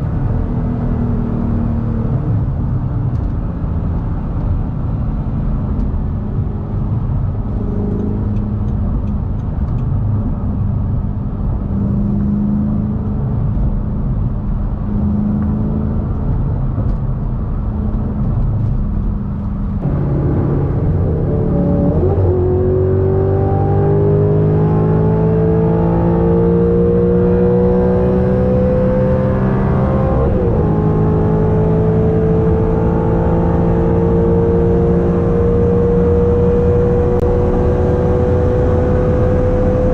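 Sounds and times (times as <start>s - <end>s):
car engine accelerating: 0.0s - 39.9s
road rumble: 0.0s - 39.9s.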